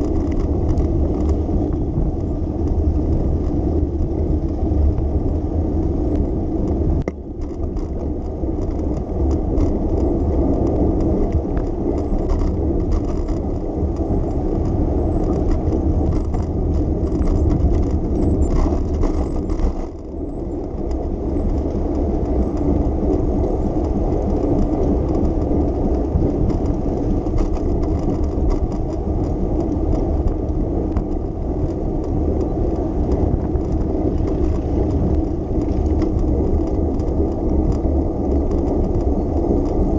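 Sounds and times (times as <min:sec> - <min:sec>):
bicycle tyre and road noise: 0:00.0 - 0:39.9
car traffic: 0:00.0 - 0:39.9.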